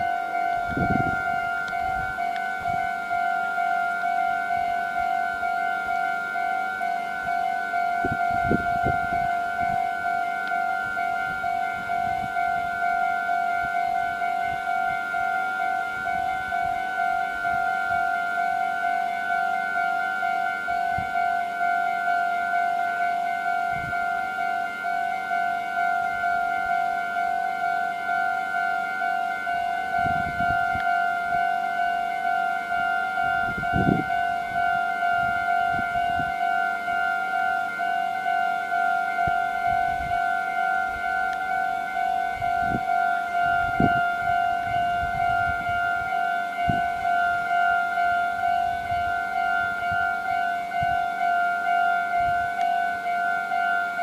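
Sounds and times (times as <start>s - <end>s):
level crossing warning bell: 0.0s - 54.0s.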